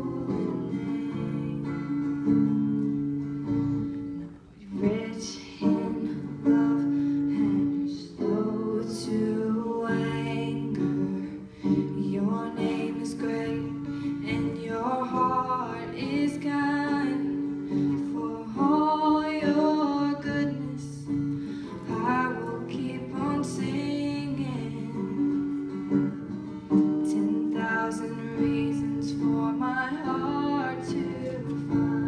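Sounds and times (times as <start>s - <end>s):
woman singing: 0.0s - 2.6s, 4.6s - 26.1s, 26.8s - 32.0s
acoustic guitar chords: 0.0s - 32.0s.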